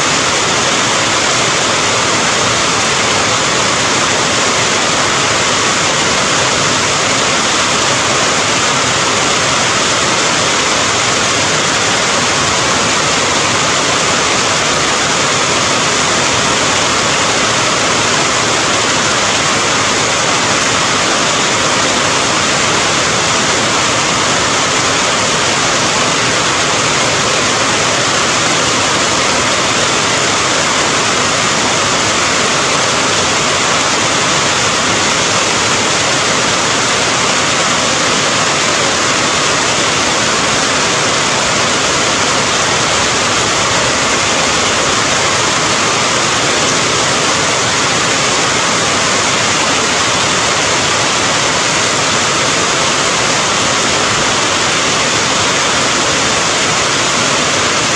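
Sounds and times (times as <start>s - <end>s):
heavy rain hiss: 0.0s - 57.9s.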